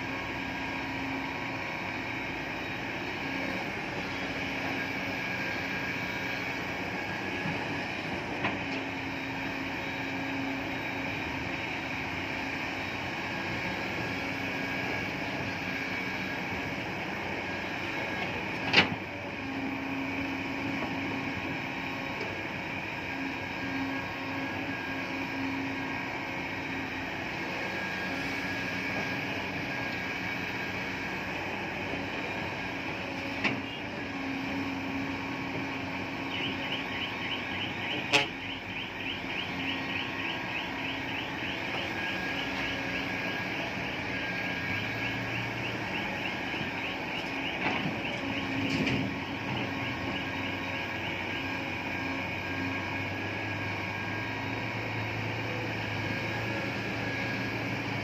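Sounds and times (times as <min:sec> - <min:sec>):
machine running noise: 0:00.0 - 0:58.0.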